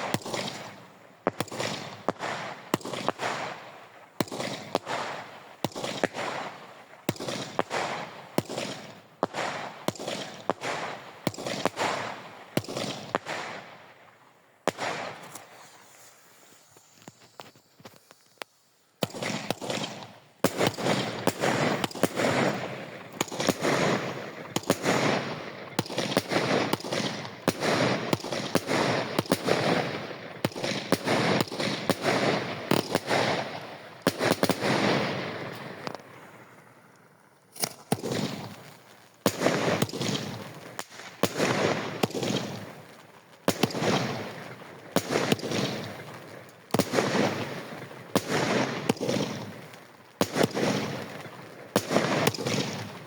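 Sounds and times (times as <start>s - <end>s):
fireworks bangs: 0.0s - 14.0s, 14.6s - 18.2s, 19.0s - 36.9s, 37.5s - 53.0s
fireworks crackle: 0.0s - 14.0s, 14.7s - 53.0s.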